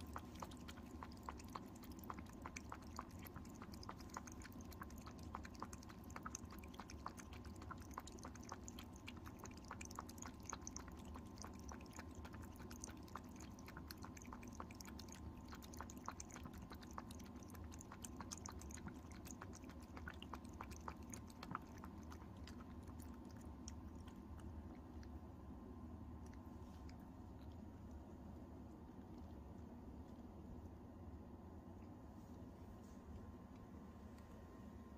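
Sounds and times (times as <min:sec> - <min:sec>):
cat lapping water: 0:00.0 - 0:30.6.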